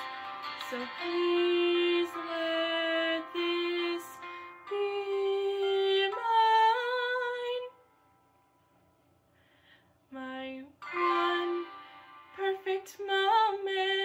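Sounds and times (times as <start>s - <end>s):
person singing ballad: 0.0s - 7.8s, 10.1s - 14.0s.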